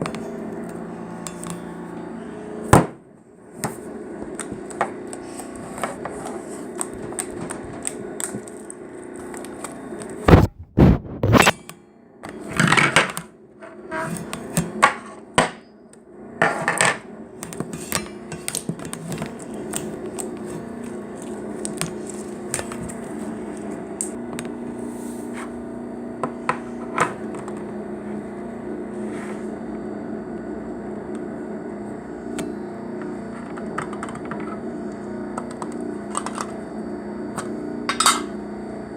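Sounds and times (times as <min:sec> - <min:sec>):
low background hum: 0:00.0 - 0:38.9.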